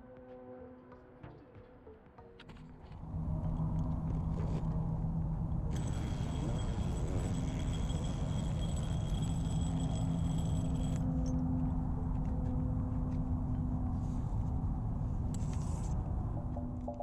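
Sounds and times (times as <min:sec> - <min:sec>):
steady low hum: 0:03.0 - 0:17.0.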